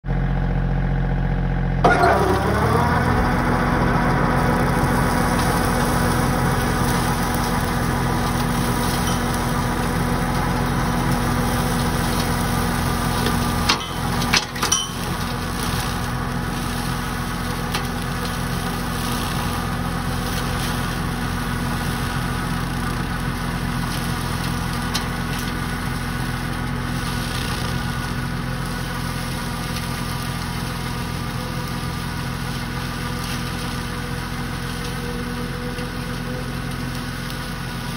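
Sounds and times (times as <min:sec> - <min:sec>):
tractor diesel engine running: 0:00.0 - 0:37.9
flail mower cutting grass: 0:00.1 - 0:37.9.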